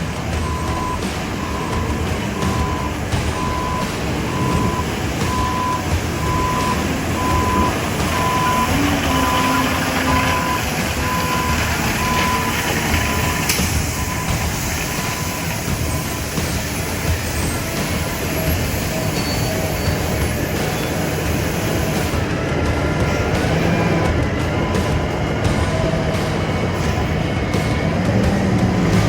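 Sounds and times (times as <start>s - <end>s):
backup alarm beeping: 0.0s - 29.0s
diesel engine rumble: 0.0s - 29.0s.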